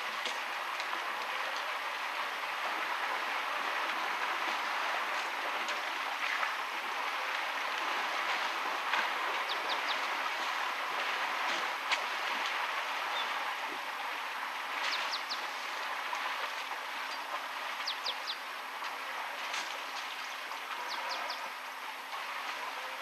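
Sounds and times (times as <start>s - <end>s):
river water rushing and splashing: 0.0s - 23.0s.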